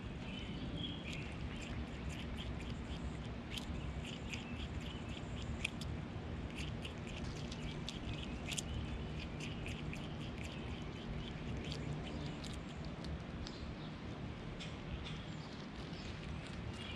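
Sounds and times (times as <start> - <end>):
animals crunching vegetables: 0.0 - 16.9.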